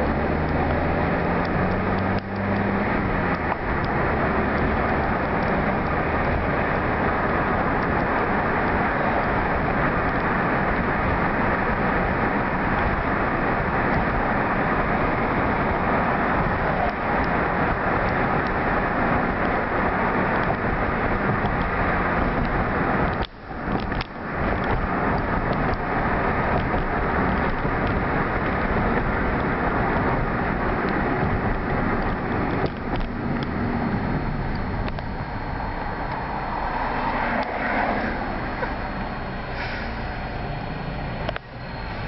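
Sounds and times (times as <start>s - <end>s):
car road and wind noise: 0.0s - 42.0s.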